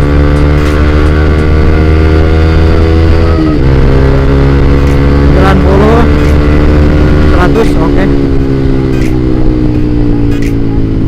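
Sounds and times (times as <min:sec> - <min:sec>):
motorcycle engine riding: 0:00.0 - 0:11.0.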